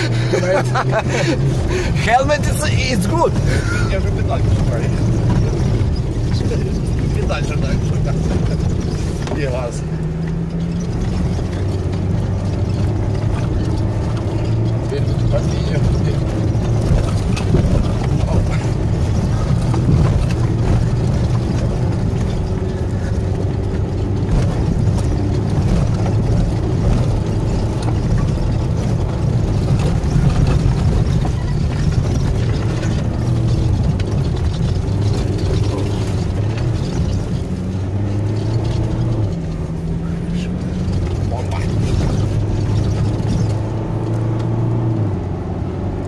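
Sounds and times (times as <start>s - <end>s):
car engine running hard: 0.0s - 46.0s
tyres rumbling on dirt track: 0.0s - 46.0s
car body knocks and rattles: 3.1s - 44.5s.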